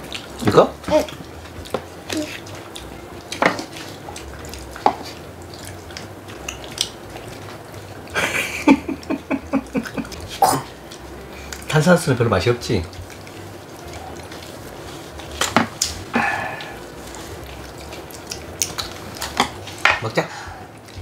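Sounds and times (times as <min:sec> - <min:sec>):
chopsticks and spoons clinking bowls: 0:00.0 - 0:20.3.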